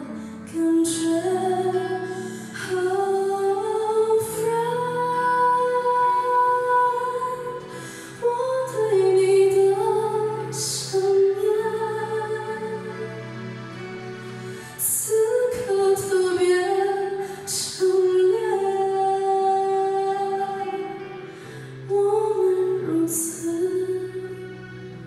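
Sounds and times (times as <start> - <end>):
woman singing ballad: 0.0 - 13.4, 14.5 - 25.0
sustained musical accompaniment: 0.0 - 25.0.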